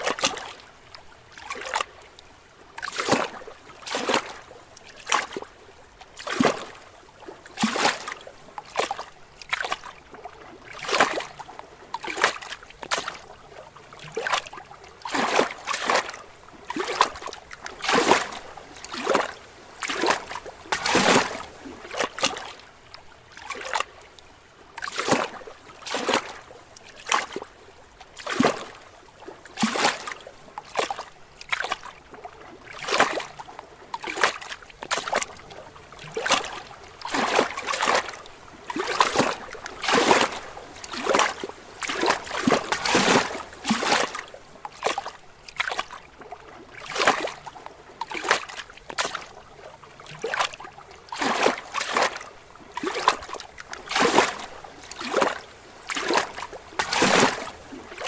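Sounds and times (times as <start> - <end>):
waves lapping against rocks: 0.0 - 58.0.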